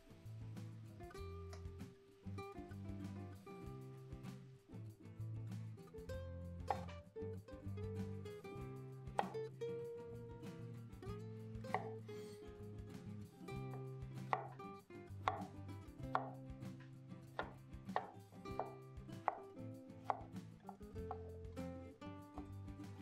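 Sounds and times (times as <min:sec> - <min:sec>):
background music with held notes: 0:00.0 - 0:23.0.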